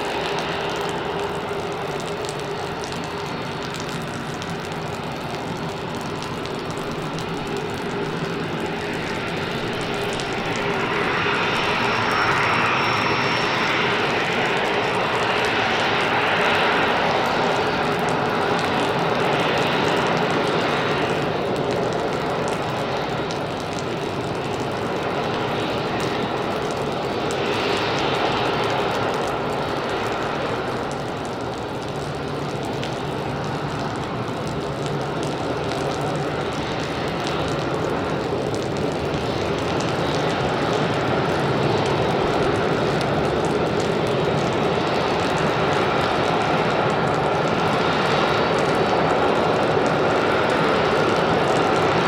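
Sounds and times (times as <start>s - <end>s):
jet engines taxiing: 0.0s - 52.0s.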